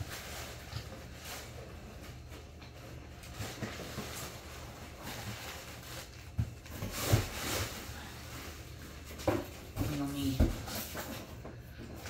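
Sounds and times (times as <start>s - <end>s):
paper and plastic packing rustling: 0.0s - 12.0s.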